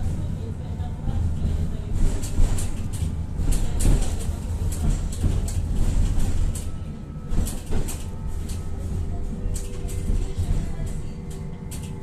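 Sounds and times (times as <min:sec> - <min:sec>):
tram running gear rumbling: 0:00.0 - 0:12.0.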